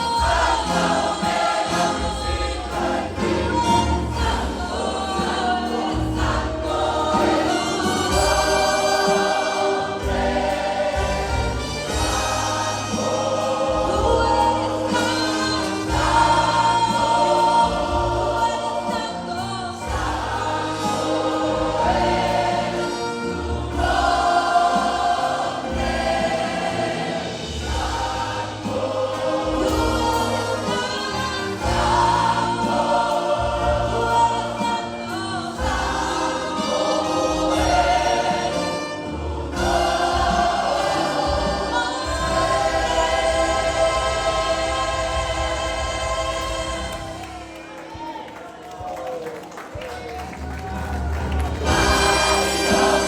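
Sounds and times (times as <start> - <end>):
choir singing worship song: 0.0 - 48.3, 50.4 - 53.0
instrumental accompaniment: 0.0 - 48.6, 50.6 - 53.0.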